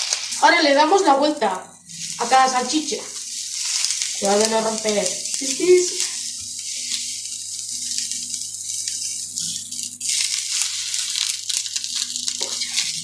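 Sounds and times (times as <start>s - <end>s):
sausages sizzling in frying pan: 0.0s - 13.0s.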